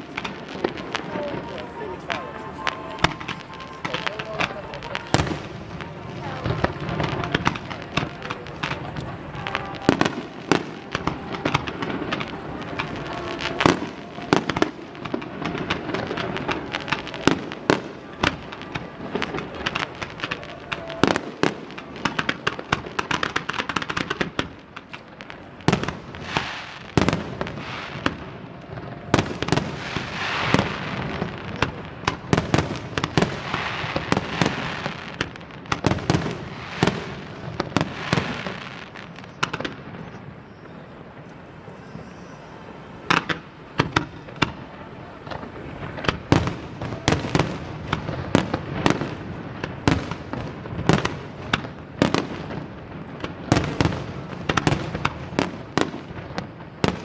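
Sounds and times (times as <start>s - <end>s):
noisy fireworks barrage: 0.0s - 57.0s.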